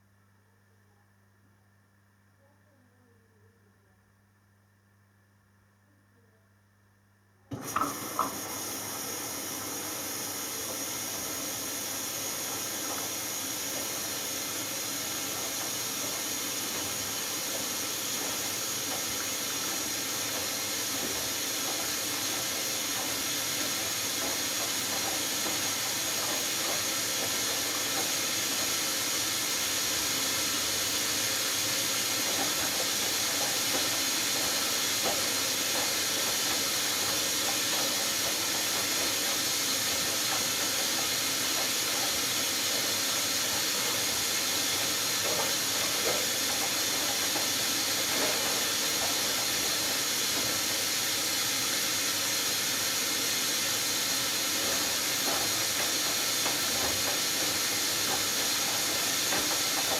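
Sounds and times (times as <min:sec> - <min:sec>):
washing machine filling with water: 0:07.5 - 0:59.9.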